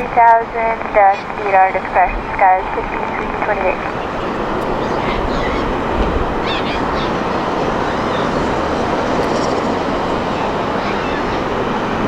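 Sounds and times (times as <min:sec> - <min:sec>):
jet airliner passing low: 0:00.0 - 0:12.0.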